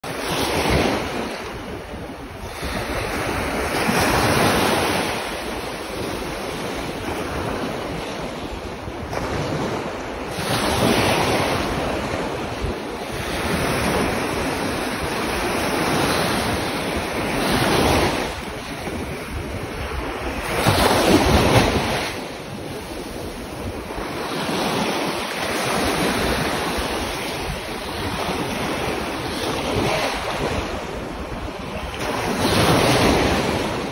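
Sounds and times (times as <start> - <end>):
wind buffeting microphone: 0.0 - 33.9
small waves washing over sand: 0.1 - 33.9.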